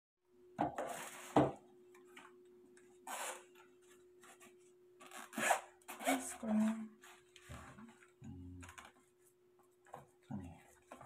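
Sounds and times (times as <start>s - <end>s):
faint steady hum: 0.3s - 11.0s.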